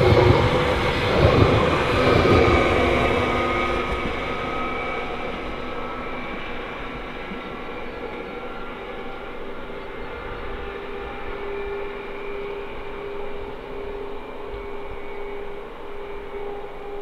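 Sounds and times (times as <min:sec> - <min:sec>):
thin steady whine: 0:00.0 - 0:17.0
train rumble and rail noise: 0:00.0 - 0:17.0.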